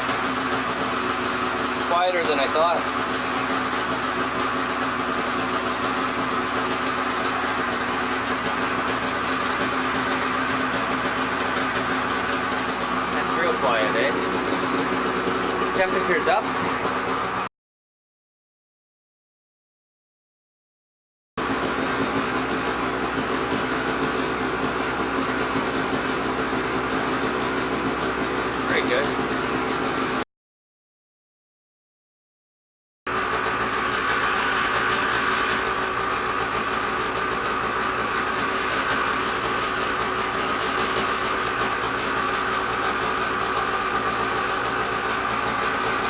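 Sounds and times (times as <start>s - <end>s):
snowmobile engine idling: 0.0s - 17.5s, 21.4s - 30.2s, 33.1s - 46.0s.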